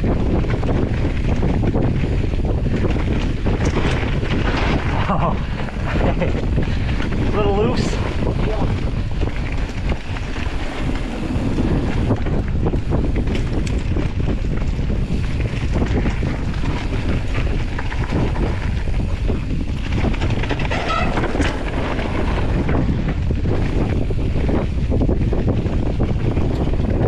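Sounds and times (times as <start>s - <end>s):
bike knocks and rattles: 0.0s - 27.0s
tyres rumbling on dirt trail: 0.0s - 27.0s
wind buffeting microphone: 0.0s - 27.0s.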